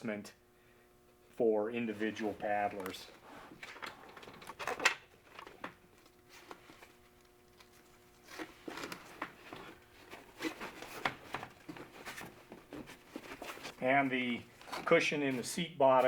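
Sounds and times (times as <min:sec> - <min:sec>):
fabric and straps rustling: 0:01.9 - 0:16.0.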